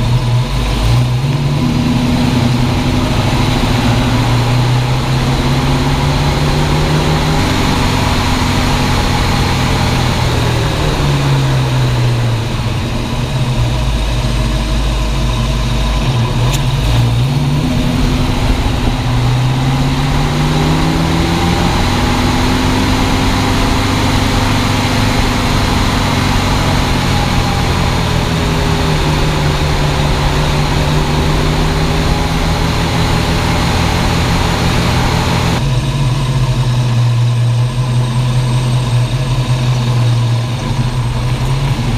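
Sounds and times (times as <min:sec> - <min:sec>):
car engine revving: 0:00.0 - 0:41.9
road noise: 0:00.0 - 0:41.9.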